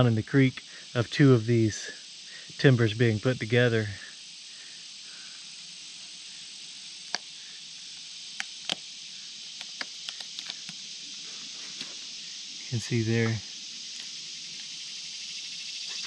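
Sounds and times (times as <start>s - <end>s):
high insect chorus: 0.0s - 16.0s.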